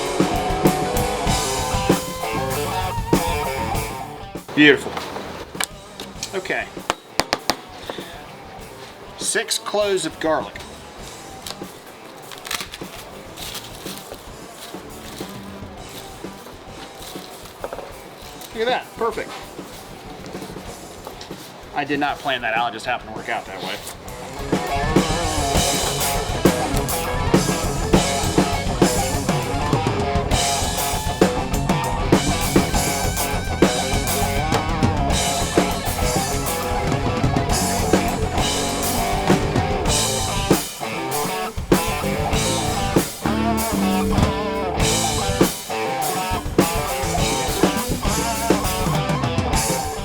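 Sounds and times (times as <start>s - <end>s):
bass guitar: 0.0s - 9.2s, 10.0s - 21.6s, 23.1s - 50.0s
drum kit beat: 0.0s - 50.0s
electric guitars: 0.0s - 50.0s.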